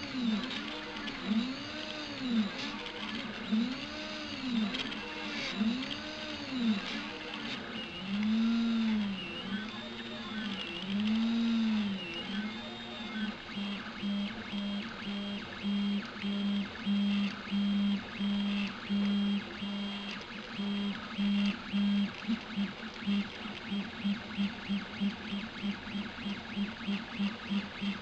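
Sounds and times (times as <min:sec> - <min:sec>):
printer stepper motors whirring: 0:00.0 - 0:28.0.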